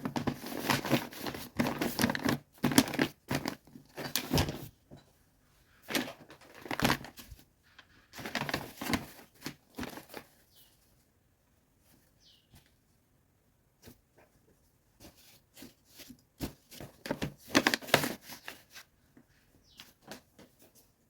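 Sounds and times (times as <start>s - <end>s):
crinkling and rustling: 0.0s - 13.1s, 13.7s - 21.0s.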